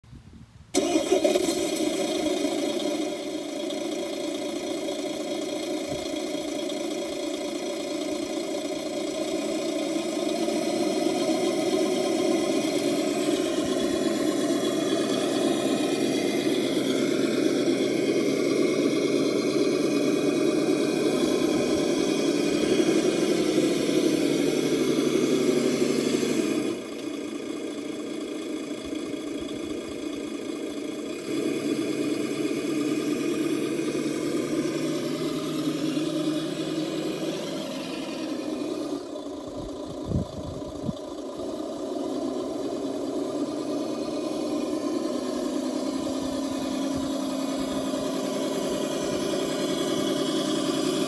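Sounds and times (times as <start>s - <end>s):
simulated truck engine idling: 0.7s - 51.0s.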